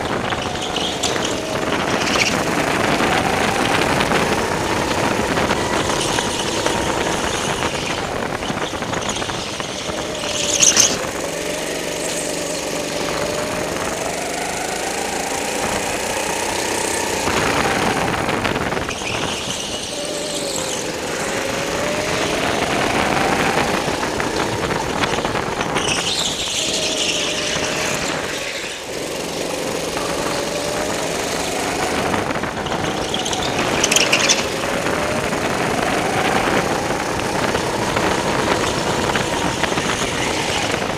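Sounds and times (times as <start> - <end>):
go-kart motor running: 0.0 - 40.9
tyre squeals: 0.0 - 40.9.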